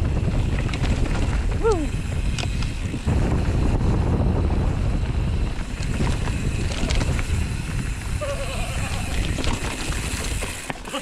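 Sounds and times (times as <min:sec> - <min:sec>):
wind on microphone: 0:00.0 - 0:10.4
bike clicks and rattles: 0:00.0 - 0:11.0
bike tyre noise: 0:00.0 - 0:11.0.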